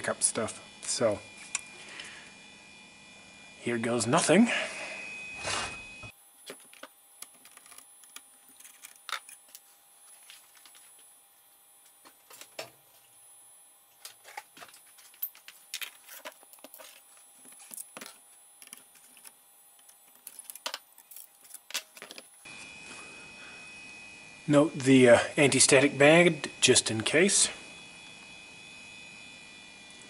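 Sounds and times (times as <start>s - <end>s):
high-pitched hard disk whine: 0.0s - 30.0s
steady hum: 0.0s - 30.0s.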